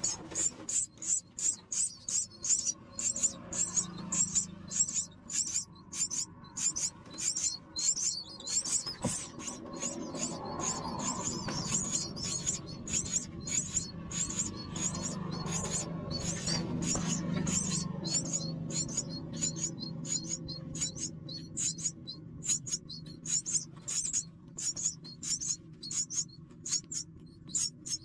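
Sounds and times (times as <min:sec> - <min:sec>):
nestlings cheeping: 0:00.0 - 0:28.0.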